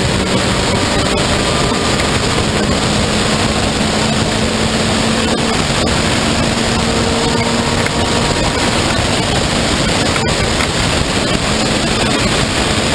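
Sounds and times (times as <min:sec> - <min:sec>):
race car engine: 0:00.0 - 0:12.9
road noise: 0:00.0 - 0:12.9
wind rushing: 0:00.0 - 0:12.9.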